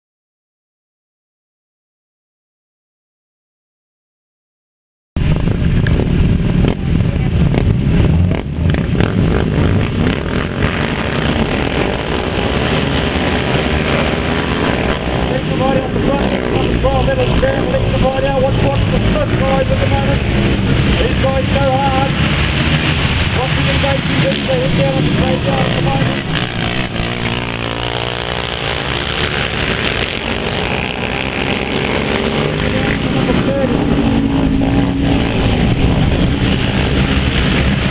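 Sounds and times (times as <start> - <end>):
quad bike engines revving: 5.2 - 37.9.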